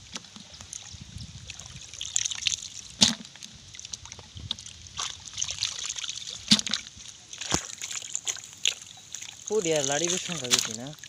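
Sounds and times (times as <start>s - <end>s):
muddy water splashing: 0.0s - 11.0s.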